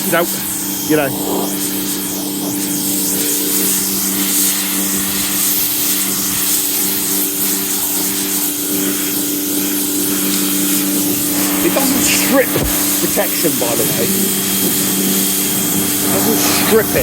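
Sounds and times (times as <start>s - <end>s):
pressure washer motor humming: 0.0s - 17.0s
water jet hissing: 0.0s - 17.0s.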